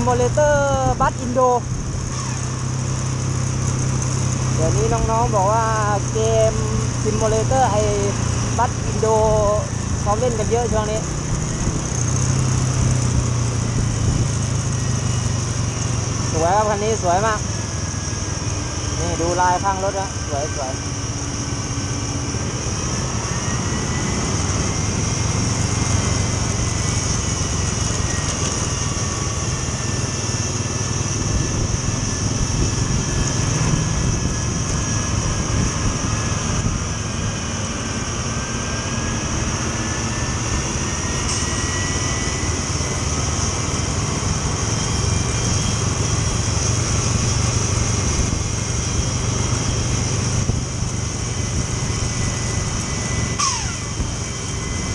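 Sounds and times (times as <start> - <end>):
coach engine climbing: 0.0 - 54.9
motorcycle engine: 0.0 - 54.9
thin whine: 0.0 - 54.9.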